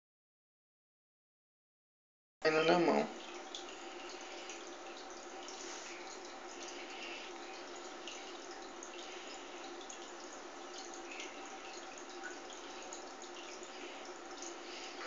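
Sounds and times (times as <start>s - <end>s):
water drips and splashes: 2.5s - 15.0s
water trickling: 2.5s - 15.0s.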